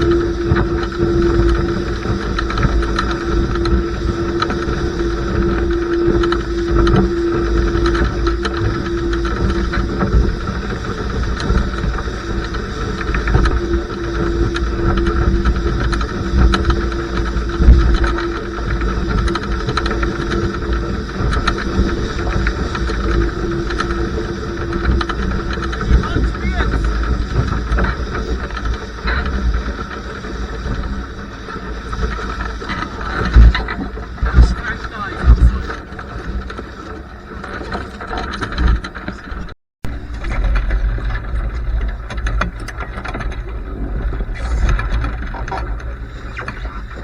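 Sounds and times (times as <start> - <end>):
steady hum: 0.0 - 47.0
water rushing past hull: 0.0 - 47.0
wind buffeting microphone: 0.0 - 47.0.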